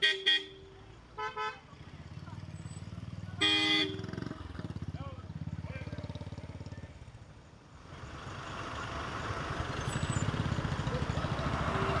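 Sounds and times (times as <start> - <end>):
vehicle engine and tyre noise: 0.0 - 12.0
motorcycle passing by: 1.6 - 12.0.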